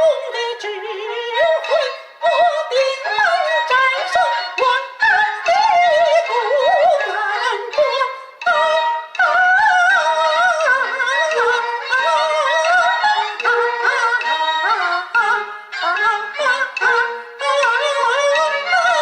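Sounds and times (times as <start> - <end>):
opera singing with vibrato: 0.0 - 19.0
traditional instrumental accompaniment: 0.0 - 19.0.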